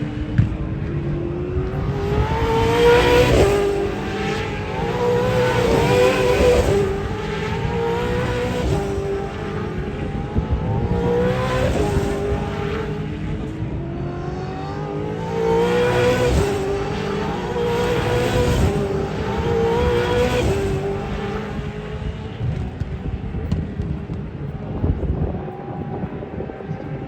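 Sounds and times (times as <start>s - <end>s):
racing engines accelerating: 0.0s - 27.0s.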